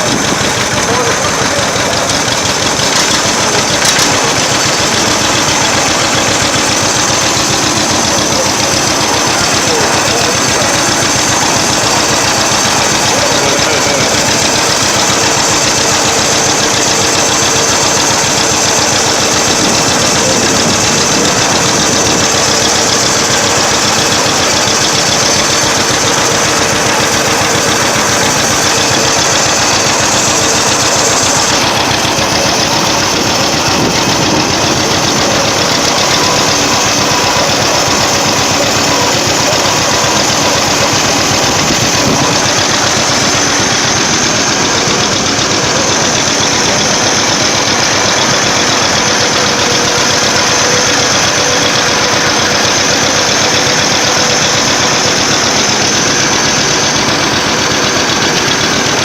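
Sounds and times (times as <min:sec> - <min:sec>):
old engine running: 0:00.0 - 0:59.0.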